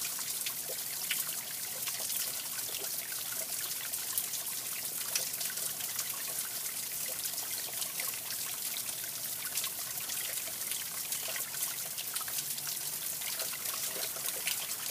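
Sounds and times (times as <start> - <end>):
stream trickling over rocks: 0.0 - 14.9.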